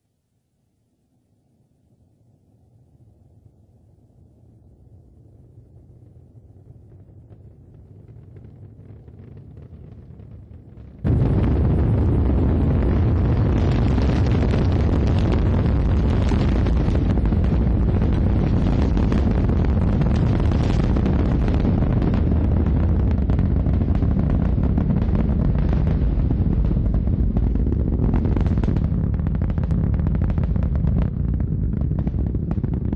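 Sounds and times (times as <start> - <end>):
rocket engines rumbling and crackling: 4.5 - 32.9.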